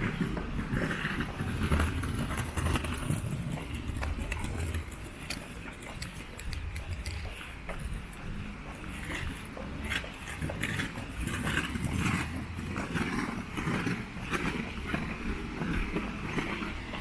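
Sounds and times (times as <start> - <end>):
footsteps on path: 0.0 - 17.0.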